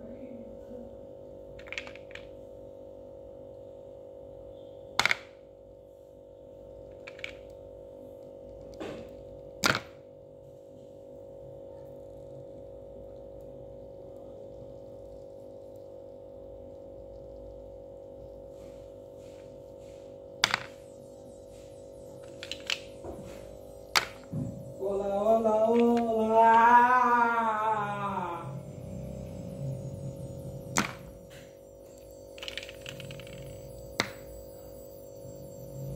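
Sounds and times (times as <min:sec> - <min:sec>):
steady background hum: 0:00.0 - 0:35.9.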